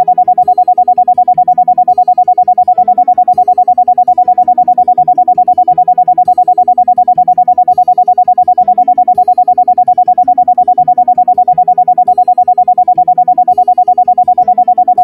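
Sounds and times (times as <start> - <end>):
rapidly pulsing tone: 0.0 - 15.0.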